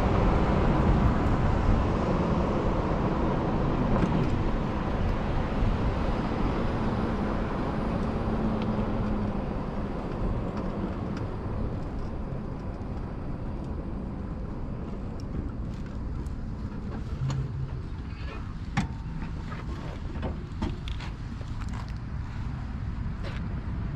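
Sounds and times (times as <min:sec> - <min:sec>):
wind and road rush: 0:00.0 - 0:23.9.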